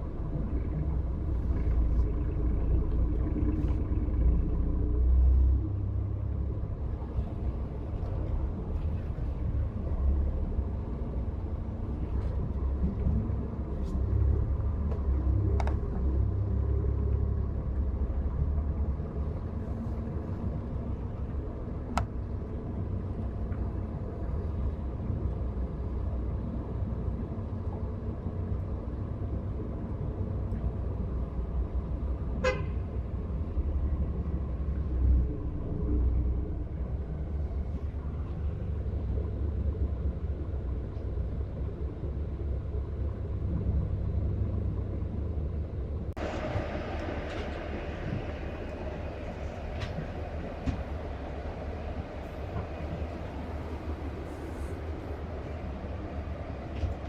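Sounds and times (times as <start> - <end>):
road vehicle rumbling: 0.0 - 57.0.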